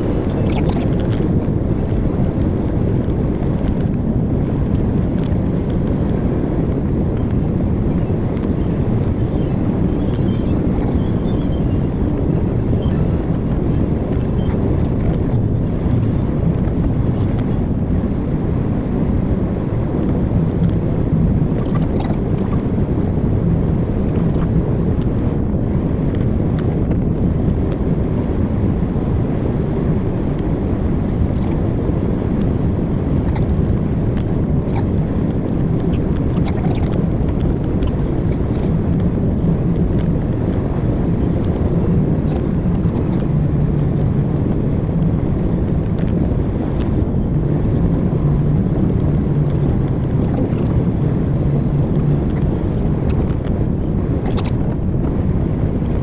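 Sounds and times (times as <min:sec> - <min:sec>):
faint steady hum: 0:00.0 - 0:56.0
truck engine and road rumble: 0:00.0 - 0:56.0.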